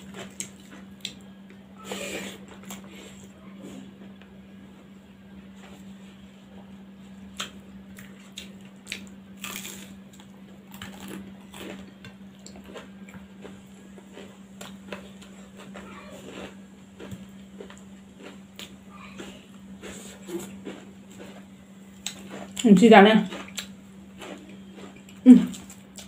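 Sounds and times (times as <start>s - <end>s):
person chewing food: 0.0s - 3.3s, 7.2s - 22.6s, 23.2s - 26.0s
steady low hum: 0.0s - 26.0s.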